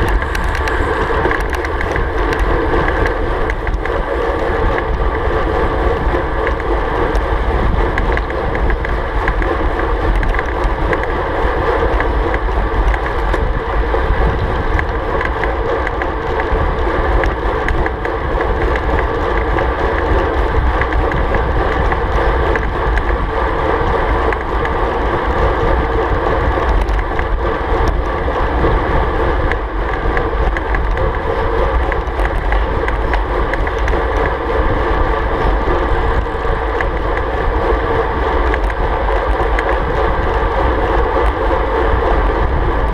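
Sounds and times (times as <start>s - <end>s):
bike tyres humming on asphalt: 0.0s - 42.9s
wind rush on microphone: 0.0s - 42.9s.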